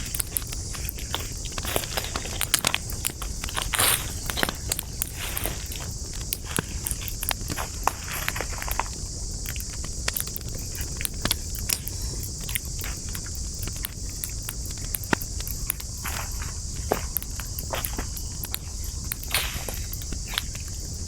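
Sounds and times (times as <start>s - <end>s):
campfire crackling and popping: 0.0s - 21.0s
insects chirring: 0.0s - 21.0s.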